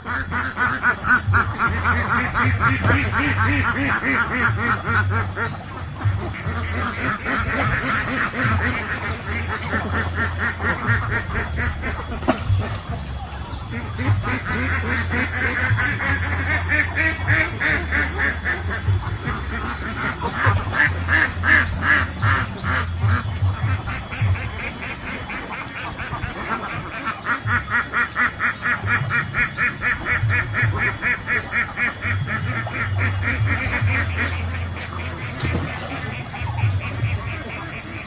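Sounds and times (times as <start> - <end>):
ducks quacking: 0.0 - 38.0.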